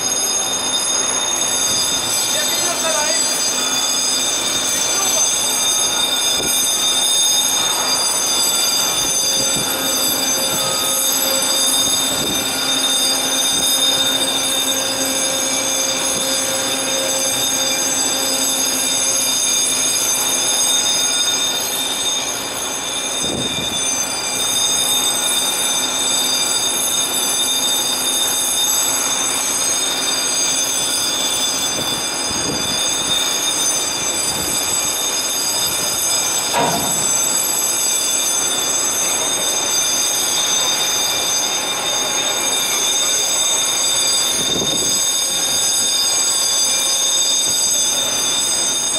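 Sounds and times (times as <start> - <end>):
high-pitched mechanical whine: 0.0 - 48.9.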